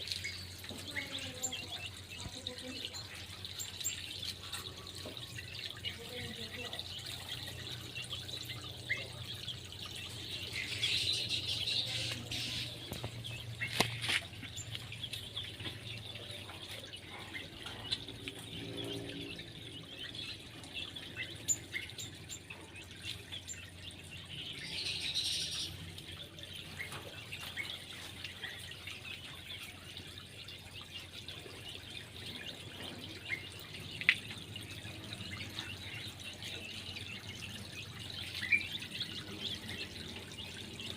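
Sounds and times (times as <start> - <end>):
small birds chirping: 0.0 - 40.9
water dripping and trickling: 0.0 - 40.9.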